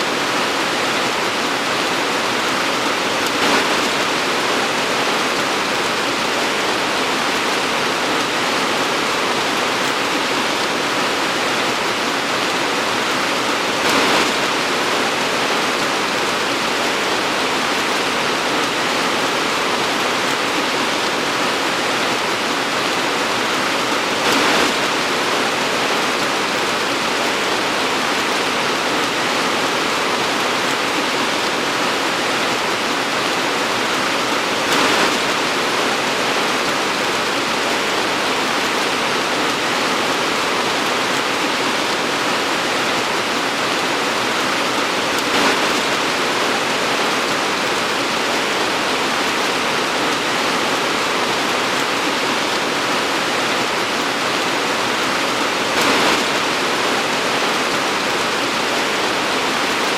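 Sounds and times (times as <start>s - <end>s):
torrential rain pouring: 0.0s - 59.9s.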